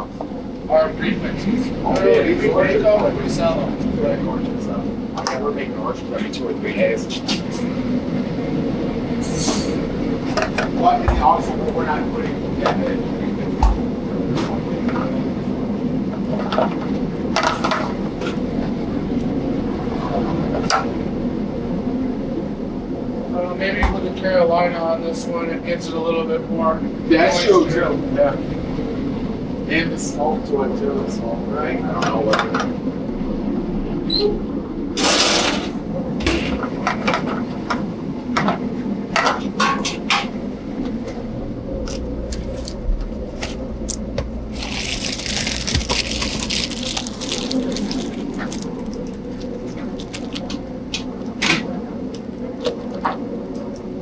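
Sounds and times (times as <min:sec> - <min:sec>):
gas burners and exhaust hood rumbling: 0:00.0 - 0:54.0.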